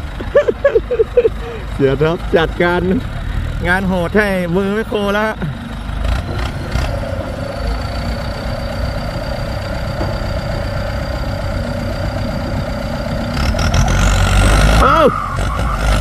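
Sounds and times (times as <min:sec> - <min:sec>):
excavator engine running: 0:00.0 - 0:16.0
tractor diesel engine running: 0:00.0 - 0:16.0.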